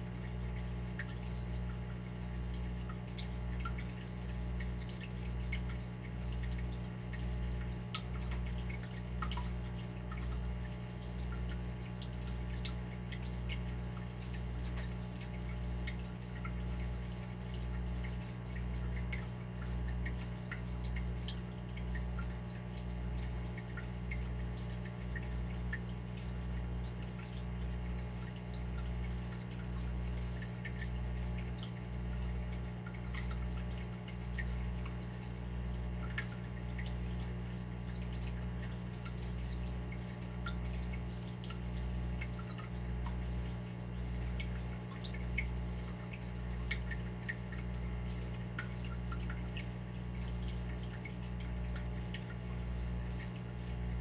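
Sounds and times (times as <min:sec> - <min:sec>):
water dripping: 0:00.0 - 0:54.0.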